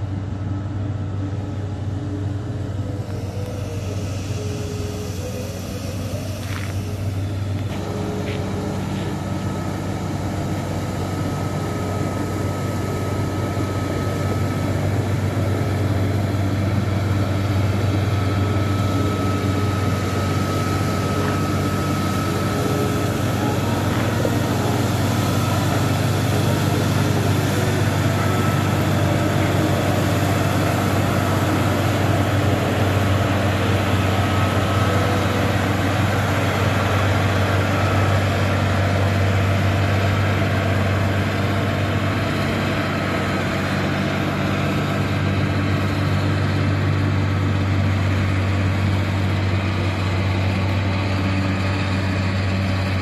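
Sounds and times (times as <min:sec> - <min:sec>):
motor grader diesel engine drone: 0:00.0 - 0:53.0.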